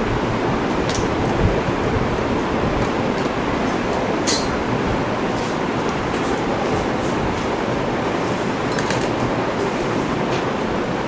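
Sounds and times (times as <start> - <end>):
room noise hiss and rumble: 0.0 - 11.0.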